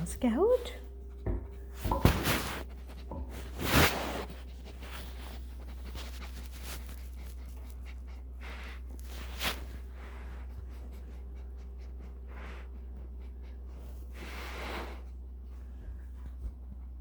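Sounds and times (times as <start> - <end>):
dog sniffing and snuffling: 0.0 - 17.0
low steady hum: 0.0 - 17.0.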